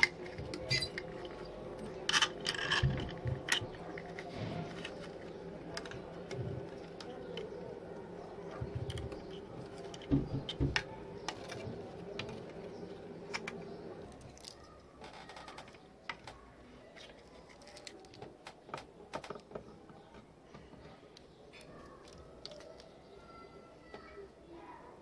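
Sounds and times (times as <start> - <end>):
small hard parts clicking: 0.0 - 20.3.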